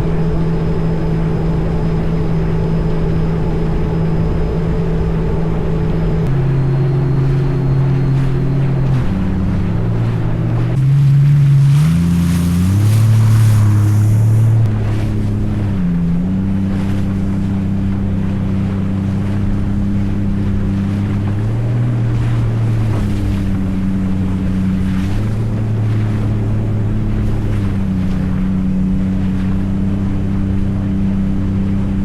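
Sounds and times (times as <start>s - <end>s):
jet ski engine running: 0.0s - 32.0s
wind and water rushing: 0.0s - 32.0s.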